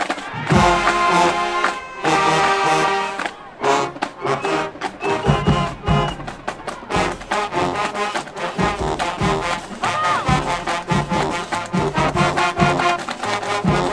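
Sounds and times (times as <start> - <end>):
brass section: 0.0 - 13.9
drumline percussion: 0.0 - 13.9
marching band playing: 0.0 - 13.9.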